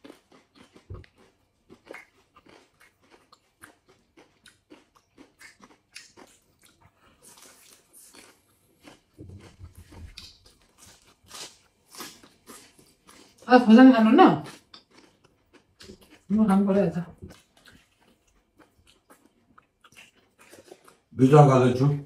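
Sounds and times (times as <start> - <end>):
people chewing and crunching: 0.0 - 22.0.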